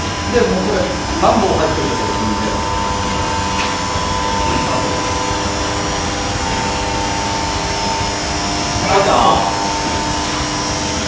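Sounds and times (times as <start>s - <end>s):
constant hum: 0.0s - 11.0s
machinery droning: 0.0s - 11.0s.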